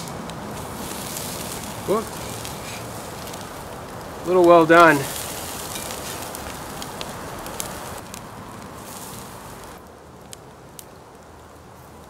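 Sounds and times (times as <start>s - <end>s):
meat sizzling on a grill: 0.0s - 10.2s
wood fire crackling and popping: 0.0s - 12.0s.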